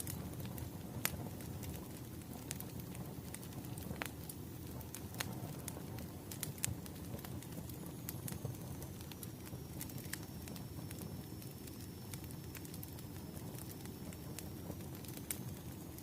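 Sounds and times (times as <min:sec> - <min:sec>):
firewood crackling and popping: 0:00.0 - 0:16.0
low rumble of flames: 0:00.0 - 0:16.0.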